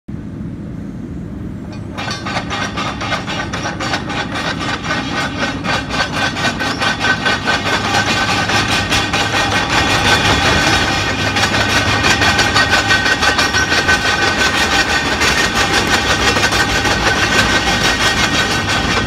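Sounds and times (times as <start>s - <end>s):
excavator engine humming: 0.2s - 19.0s
fast rasping clatter: 1.8s - 19.0s.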